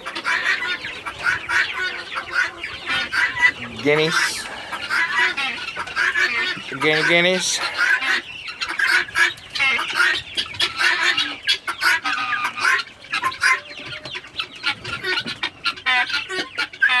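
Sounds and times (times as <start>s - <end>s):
chickens and guinea fowl clucking: 0.0s - 17.0s.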